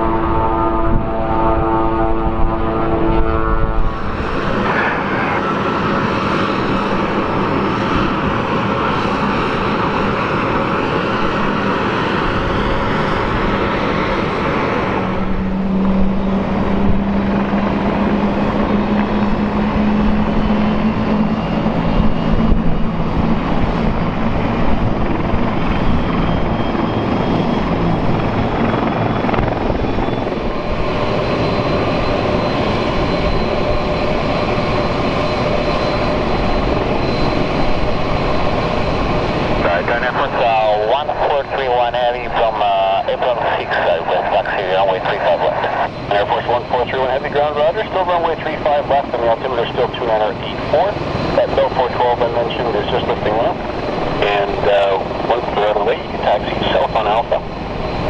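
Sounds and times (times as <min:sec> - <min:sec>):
jet engines idling: 0:03.7 - 0:58.0.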